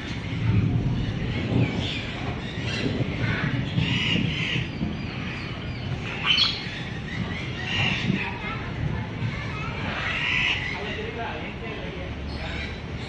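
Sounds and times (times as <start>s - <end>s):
cockatoos squawking: 0.0s - 11.4s.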